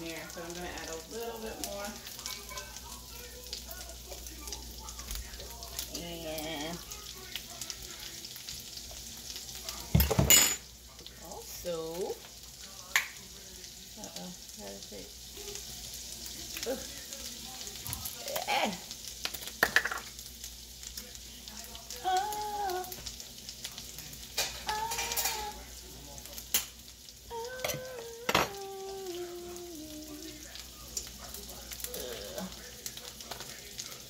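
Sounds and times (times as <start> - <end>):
butter sizzling in a frying pan: 0.0 - 34.0.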